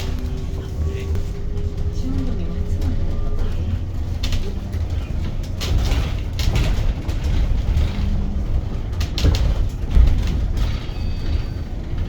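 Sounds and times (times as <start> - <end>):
bus body rattles and knocks: 0.0 - 12.0
road and tyre rumble: 0.0 - 12.0.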